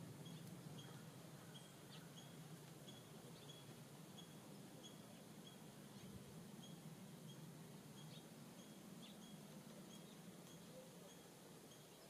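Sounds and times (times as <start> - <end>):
songbird call: 0.0 - 12.0.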